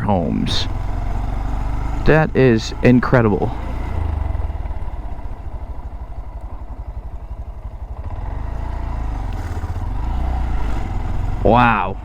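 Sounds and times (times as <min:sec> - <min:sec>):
small motorcycle engine running: 0:00.1 - 0:12.0.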